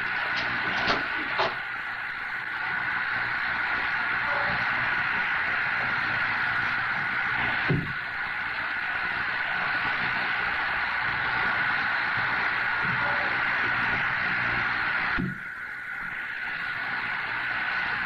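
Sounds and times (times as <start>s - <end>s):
soundtrack hiss: 0.0s - 18.0s.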